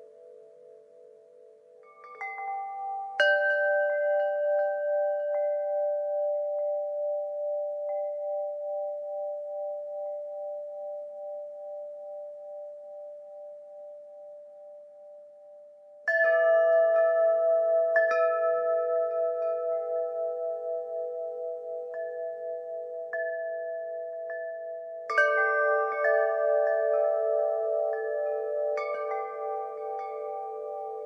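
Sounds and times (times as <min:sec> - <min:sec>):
deep-toned wind chimes ringing: 0:00.0 - 0:31.0.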